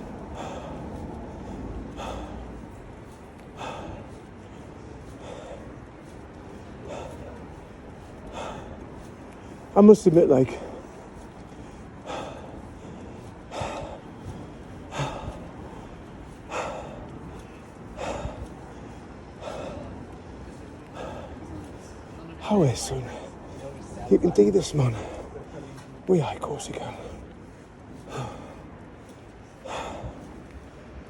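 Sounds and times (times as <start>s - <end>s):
person breathing heavily: 0.0s - 31.0s
steady background noise: 0.0s - 31.0s
wind and road noise: 0.0s - 31.0s.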